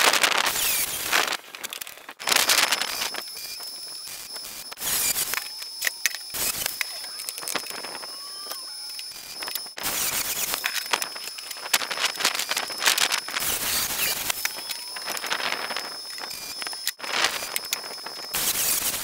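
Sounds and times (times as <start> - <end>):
angle grinder cutting steel: 0.4 - 1.4, 2.2 - 19.0.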